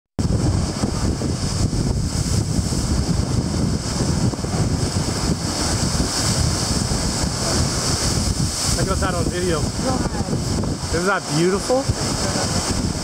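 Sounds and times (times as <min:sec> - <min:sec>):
heavy surf crashing on rocks: 0:00.2 - 0:13.0
wind buffeting microphone: 0:00.2 - 0:13.0.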